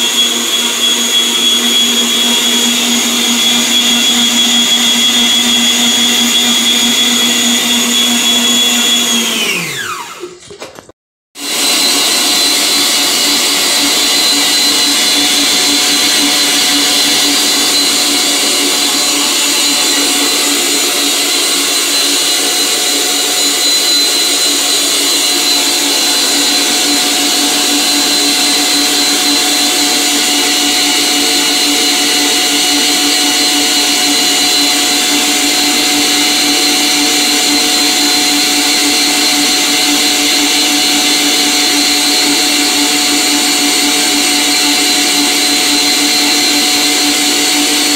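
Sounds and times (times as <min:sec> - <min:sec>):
stand mixer motor whining: 0:00.0 - 0:47.9.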